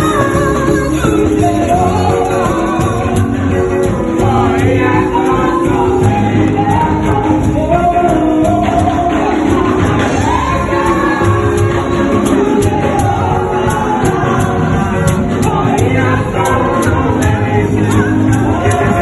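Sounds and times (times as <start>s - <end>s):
choir singing over a beat: 0.0s - 19.0s.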